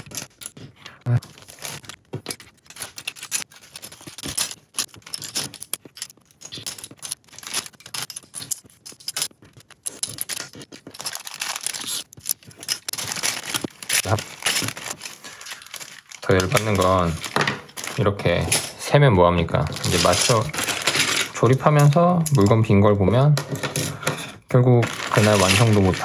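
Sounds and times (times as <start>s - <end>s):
plastic blocks clicking and rattling: 0.0s - 18.8s, 19.6s - 26.0s
plastic bags crinkling: 0.0s - 22.9s, 23.5s - 26.0s.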